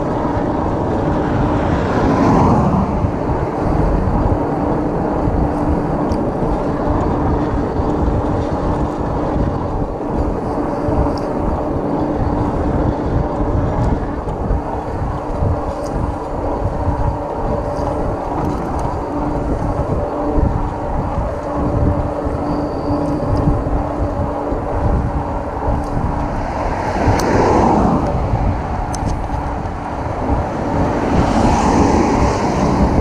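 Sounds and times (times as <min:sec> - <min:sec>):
steady hum: 0:00.0 - 0:33.0
wind and road noise: 0:00.0 - 0:33.0.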